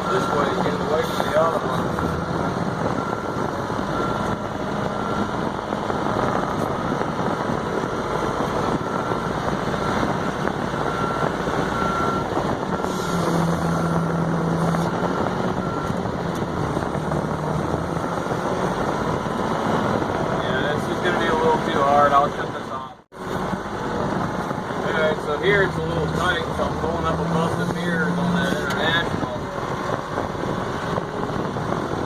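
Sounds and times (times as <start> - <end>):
forklift engine running: 0.0 - 32.0.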